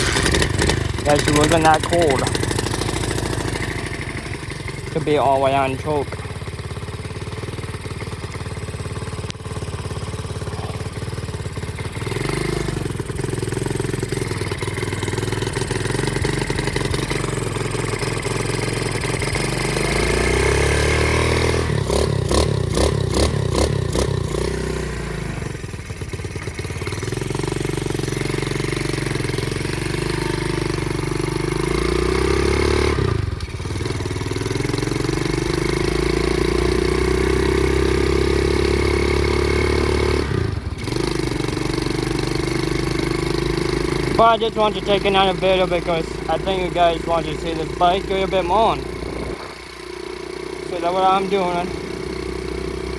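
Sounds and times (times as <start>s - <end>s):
pit bike engine revving: 0.0s - 52.9s.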